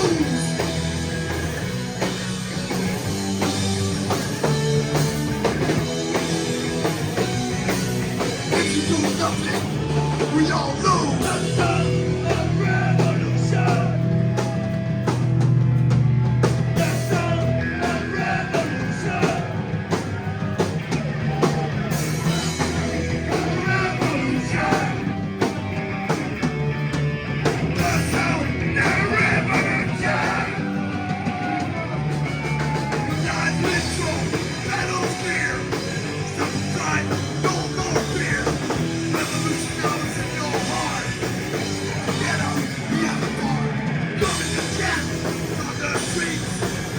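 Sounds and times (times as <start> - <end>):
rock band playing live: 0.0 - 46.9.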